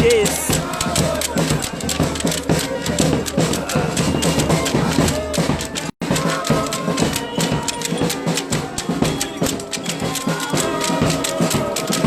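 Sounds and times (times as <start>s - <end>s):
fast percussion music: 0.0s - 12.0s.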